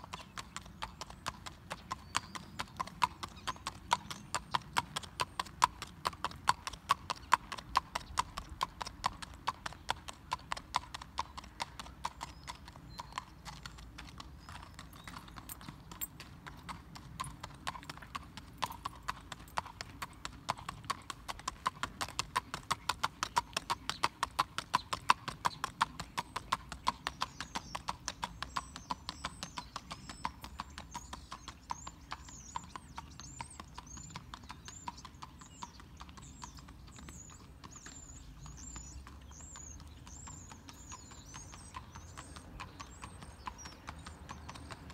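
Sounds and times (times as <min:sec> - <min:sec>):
horse hoofbeats: 0:00.2 - 0:44.9.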